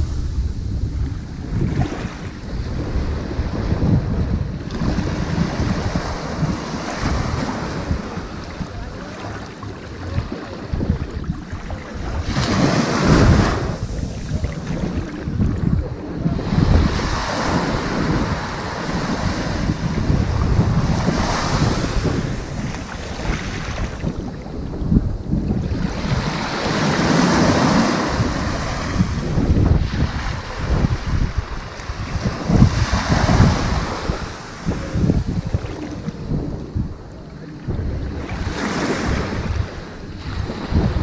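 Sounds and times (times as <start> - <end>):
ocean waves breaking on beach: 0.0 - 41.0.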